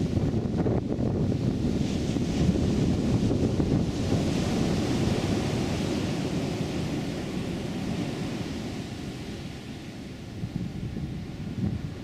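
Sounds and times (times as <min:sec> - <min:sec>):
ocean surf rushing: 0:00.0 - 0:12.0
wind buffeting microphone: 0:00.0 - 0:12.0.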